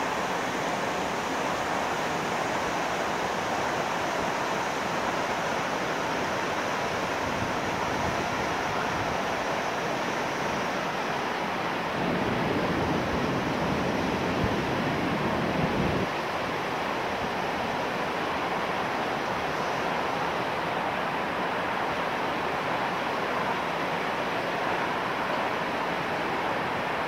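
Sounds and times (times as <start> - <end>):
water rushing through sluice gates: 0.0 - 27.0.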